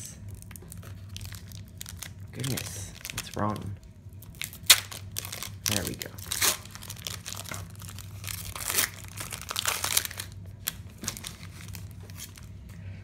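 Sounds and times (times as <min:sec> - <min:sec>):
foil wrapper crinkling: 0:00.3 - 0:12.6.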